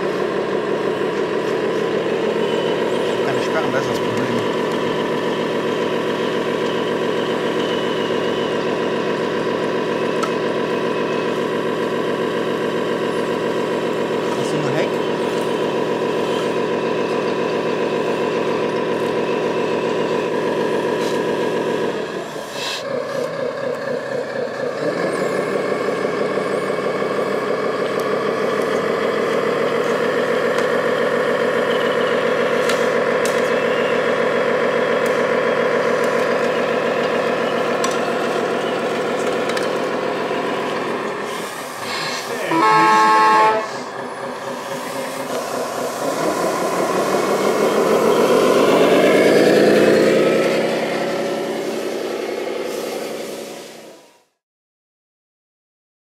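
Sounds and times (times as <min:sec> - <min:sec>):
model machines working: 0:00.0 - 0:20.8, 0:21.4 - 0:52.7
simulated diesel truck engine: 0:00.0 - 0:54.4.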